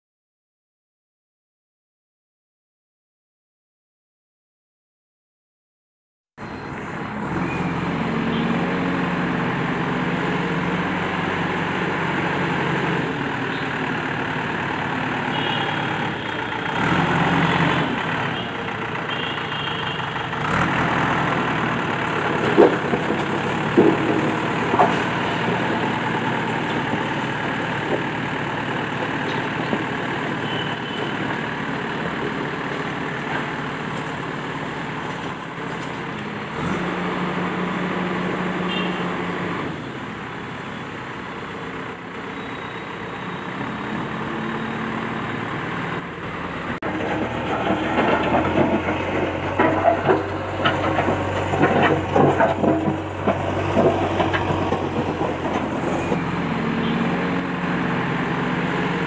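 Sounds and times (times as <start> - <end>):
backhoe engine running: 6.4 - 59.0.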